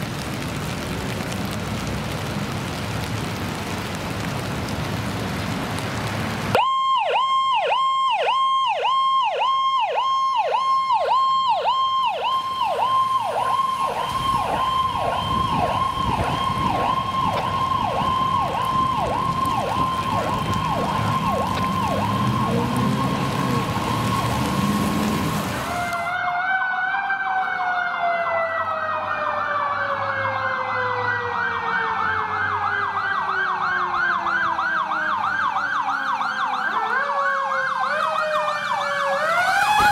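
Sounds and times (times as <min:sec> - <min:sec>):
fire truck sirens: 0:00.0 - 0:39.9
ambulance siren fast yelp: 0:06.6 - 0:39.9.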